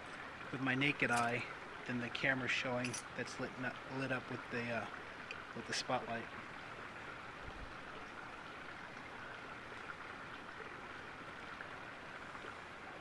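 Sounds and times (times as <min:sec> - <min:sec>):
pond waterfall trickling: 0:00.0 - 0:13.0.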